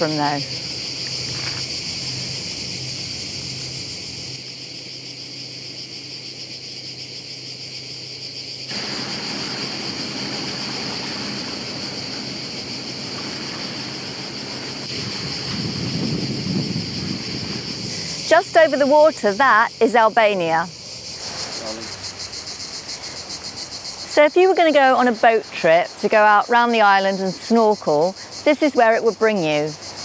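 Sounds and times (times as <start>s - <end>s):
cicadas chorus: 0.0s - 30.0s.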